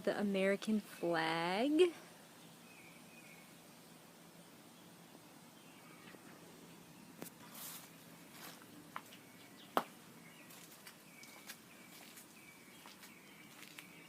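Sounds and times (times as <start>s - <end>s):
faint outdoor ambience: 0.0s - 14.0s
bird chirping: 2.0s - 14.0s.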